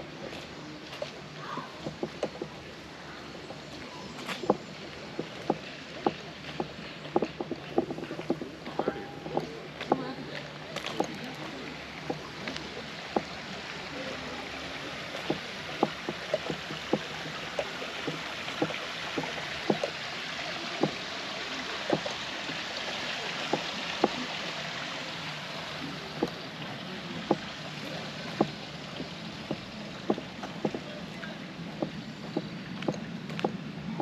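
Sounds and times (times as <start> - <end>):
footsteps outdoors: 0.0 - 34.0.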